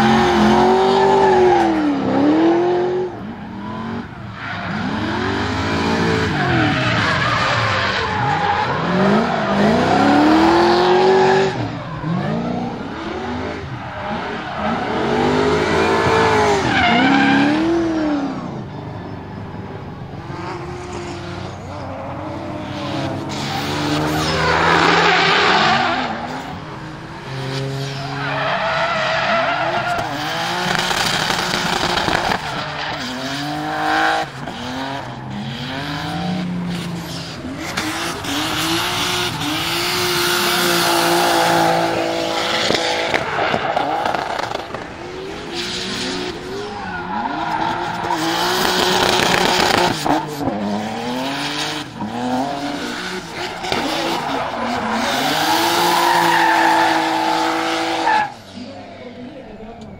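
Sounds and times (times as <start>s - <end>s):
car engines revving hard: 0.0s - 59.9s
tyres squealing on asphalt: 0.0s - 59.9s.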